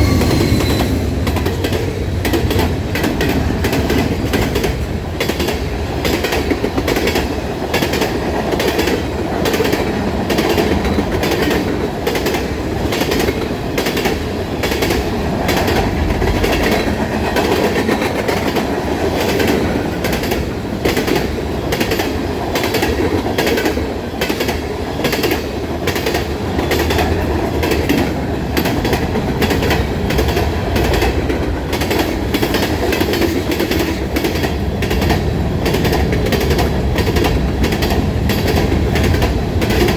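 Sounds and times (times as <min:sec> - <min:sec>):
train cars rumbling: 0:00.0 - 0:39.9
train wheels clicking over rail joints: 0:00.0 - 0:39.9.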